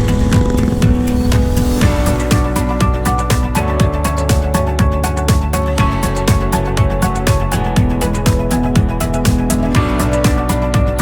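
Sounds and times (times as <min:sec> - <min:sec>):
background music with steady beat: 0:00.0 - 0:11.0
bass drum hits: 0:00.0 - 0:11.0.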